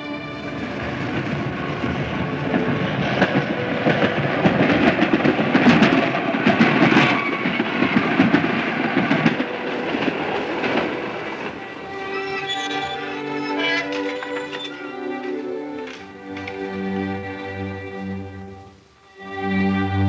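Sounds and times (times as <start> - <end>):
electric train passing: 0.0 - 20.0
wheels clattering over rail joints: 0.1 - 16.8.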